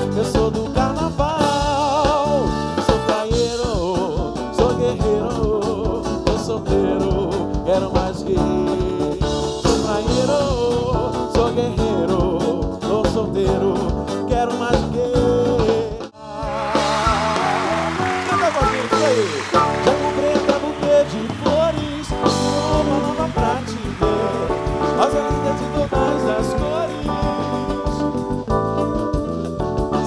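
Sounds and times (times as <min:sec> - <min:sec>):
band music with man singing: 0:00.0 - 0:30.0.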